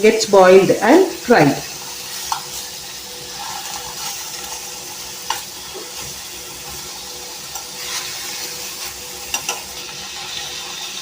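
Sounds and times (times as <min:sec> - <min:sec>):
kebabs sizzling in a pan: 0:00.0 - 0:11.0.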